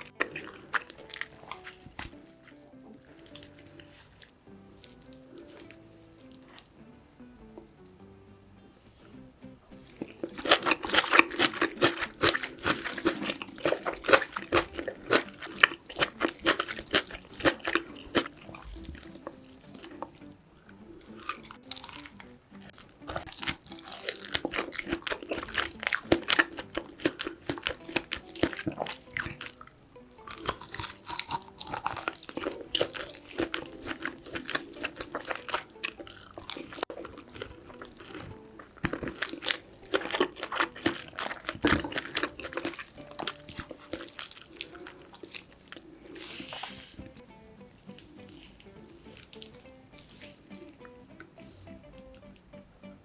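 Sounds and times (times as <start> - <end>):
wet chewing and lip-smacking: 0.0 - 6.7, 9.0 - 47.2, 47.9 - 52.4.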